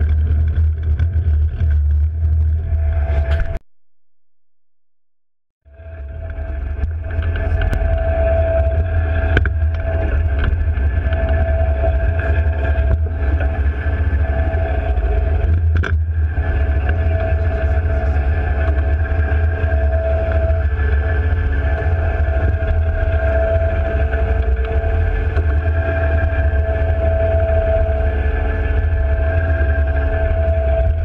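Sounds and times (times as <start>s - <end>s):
diesel engines rumbling with whine: 0.0s - 3.6s, 5.7s - 31.0s.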